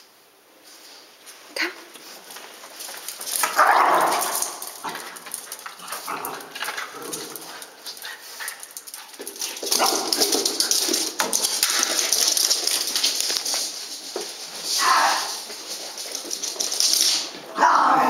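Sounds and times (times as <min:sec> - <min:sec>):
scuffling and knocks: 0:00.7 - 0:17.5.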